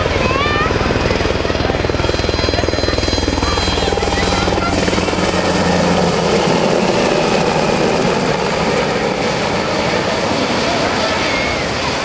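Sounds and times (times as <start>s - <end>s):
helicopter rotor beating: 0.0s - 12.0s
helicopter turbine noise: 0.0s - 12.0s.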